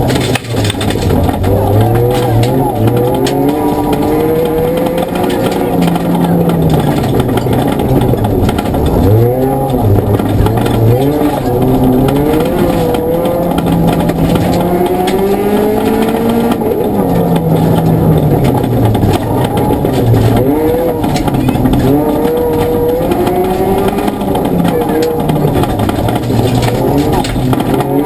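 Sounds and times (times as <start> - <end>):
rally car engine revving: 0.0 - 28.0
tyre and gravel noise: 0.0 - 28.0.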